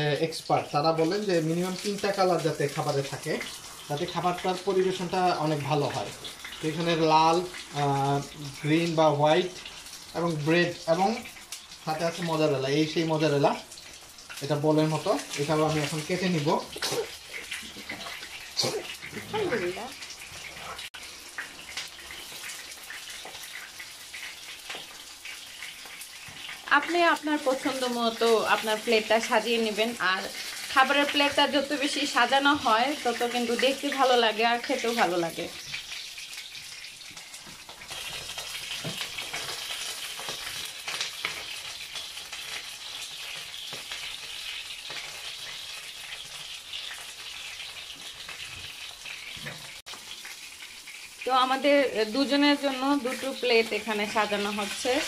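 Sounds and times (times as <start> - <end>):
fish sizzling in a frying pan: 0.0 - 55.0.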